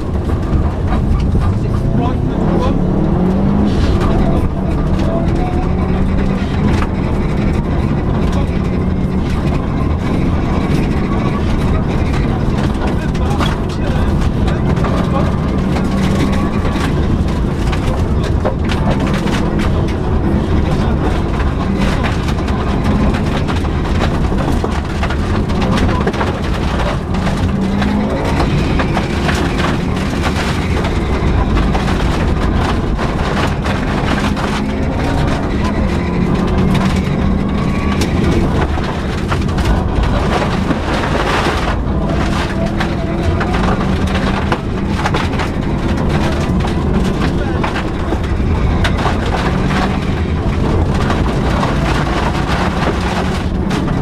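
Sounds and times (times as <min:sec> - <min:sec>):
constant rattle: 0:00.0 - 0:54.0
rally car engine revving: 0:00.0 - 0:54.0.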